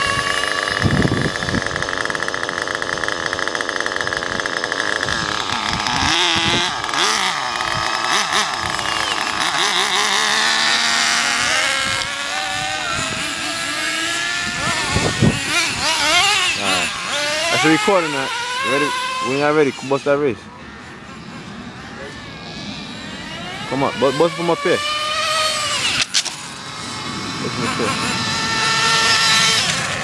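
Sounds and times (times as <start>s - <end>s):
small model engine whining: 0.0s - 30.0s.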